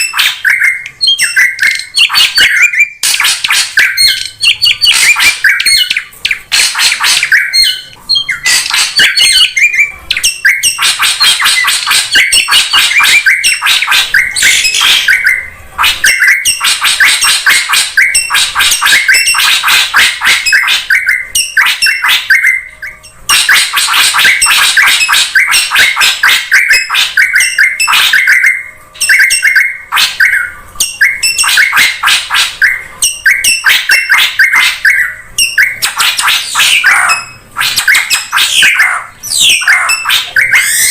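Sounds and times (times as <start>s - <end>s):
bird high-pitched chattering call: 0.0s - 40.9s.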